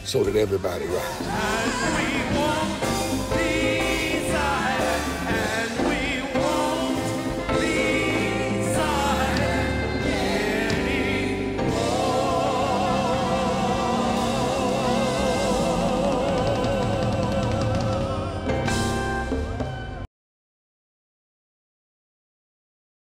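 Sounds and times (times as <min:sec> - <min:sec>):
gospel choir singing: 0:00.8 - 0:20.0
steady bass line: 0:01.1 - 0:20.0.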